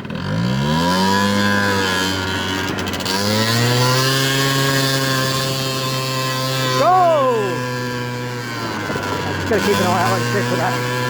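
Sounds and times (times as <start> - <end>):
scooter engine buzzing: 0.0 - 11.0.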